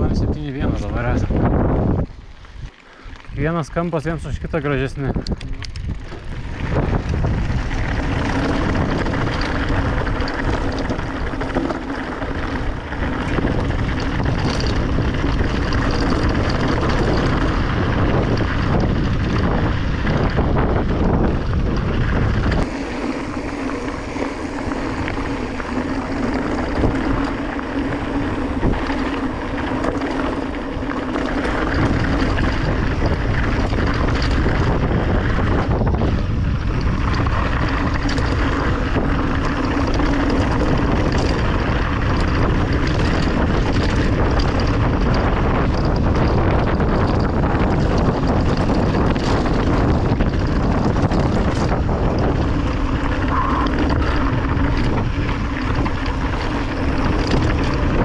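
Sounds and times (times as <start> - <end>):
wind buffeting microphone: 0.0 - 58.0
deep rumble: 3.3 - 58.0.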